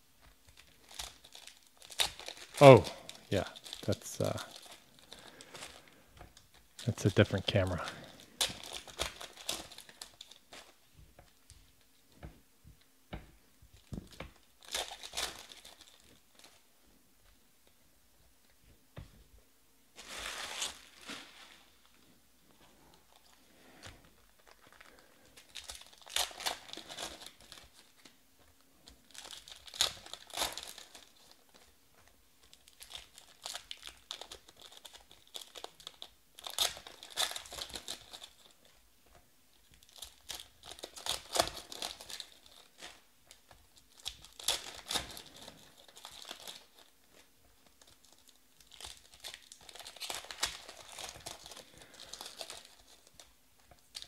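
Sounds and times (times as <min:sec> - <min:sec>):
foil wrappers crinkling and tearing: 0:00.3 - 0:11.5, 0:13.8 - 0:16.6, 0:20.0 - 0:22.1, 0:22.8 - 0:54.0.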